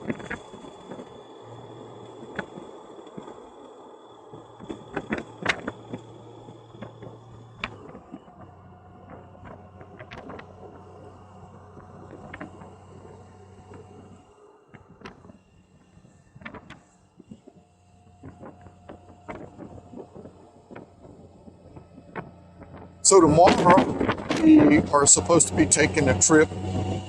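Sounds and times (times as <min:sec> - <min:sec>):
motorcycle engine hum: 0:00.0 - 0:27.0.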